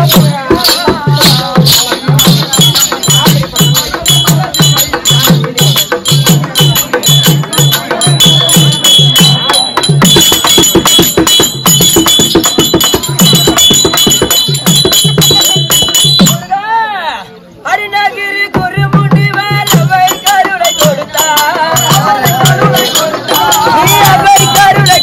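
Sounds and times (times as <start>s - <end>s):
hand drum playing fast rhythm: 0.0s - 16.4s, 18.5s - 25.0s
high held tones: 0.0s - 16.6s, 19.5s - 25.0s.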